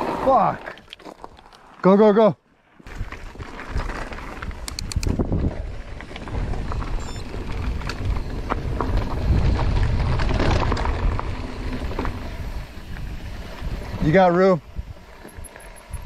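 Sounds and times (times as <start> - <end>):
bike tyres crunching over stones: 0.0 - 16.0
bike rattling: 2.7 - 16.0
wind on microphone: 2.9 - 16.0.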